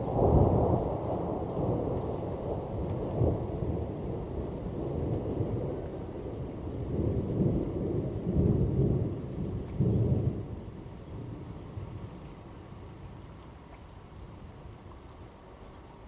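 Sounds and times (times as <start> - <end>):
thunder rumbling: 0.0 - 13.3
rain falling: 0.0 - 16.0.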